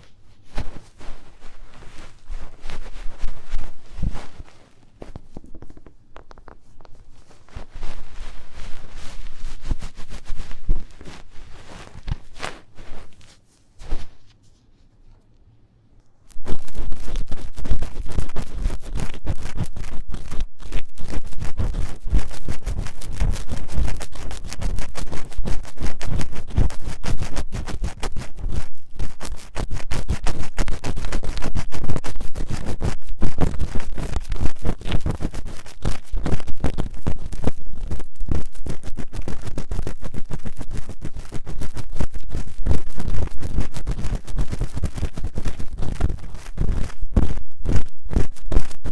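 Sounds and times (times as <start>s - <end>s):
tools scratching inside microphone ear: 0.0s - 14.7s, 16.3s - 48.9s.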